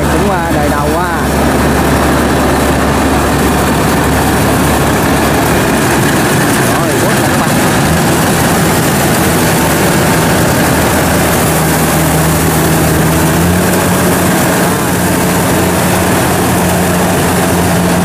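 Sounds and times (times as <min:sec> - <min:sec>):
combine harvester engine running: 0:00.0 - 0:18.0.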